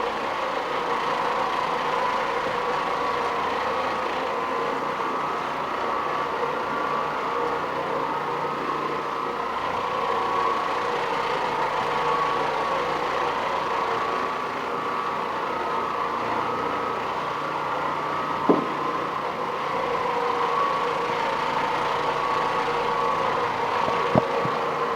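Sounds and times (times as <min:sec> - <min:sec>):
carpet cleaning machine running: 0:00.0 - 0:24.9.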